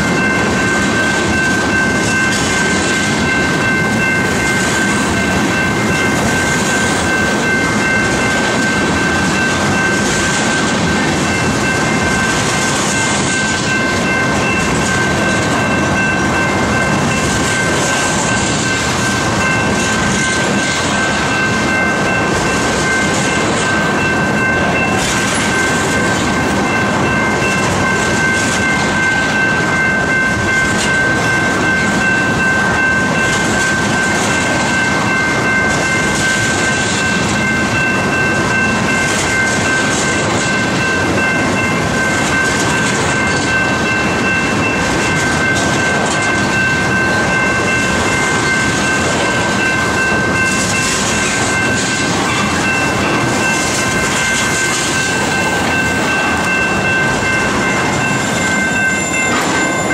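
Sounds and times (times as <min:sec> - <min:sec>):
high-pitched ringing tone: 0:00.0 - 0:59.9
train wheels rumbling and clattering: 0:00.0 - 0:59.9.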